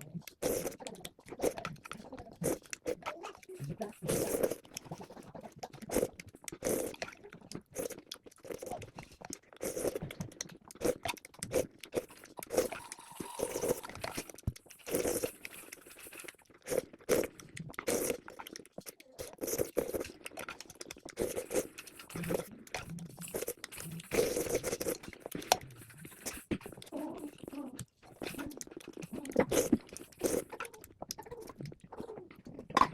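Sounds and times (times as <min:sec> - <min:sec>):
crunchy chewing: 0:00.0 - 0:32.9
wet mouth sounds: 0:00.0 - 0:32.9.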